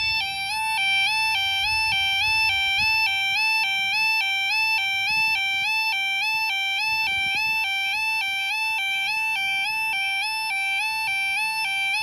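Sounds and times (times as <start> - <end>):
level crossing alarm two-tone: 0.0 - 12.0.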